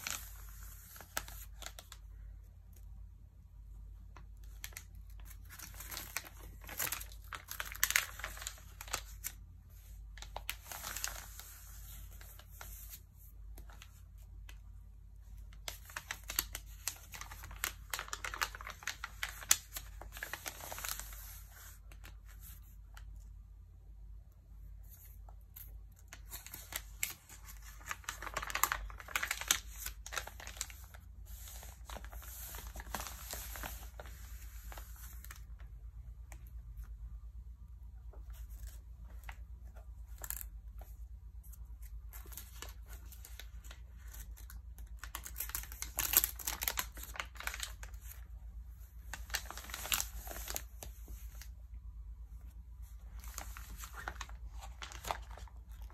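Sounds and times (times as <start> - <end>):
magazine pages rustling: 0.0 - 2.1, 4.2 - 14.6, 15.4 - 23.1, 26.0 - 35.6, 38.1 - 51.6, 52.4 - 55.9.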